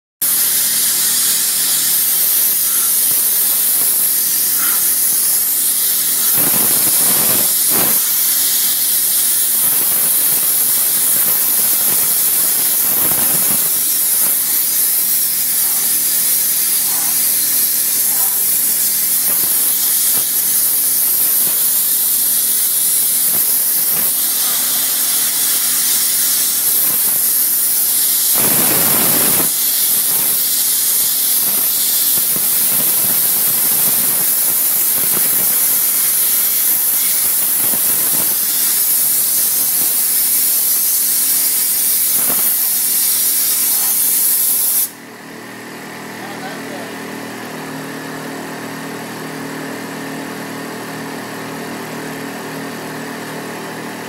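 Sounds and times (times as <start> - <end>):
steam cleaner jet hissing: 0.2 - 45.0.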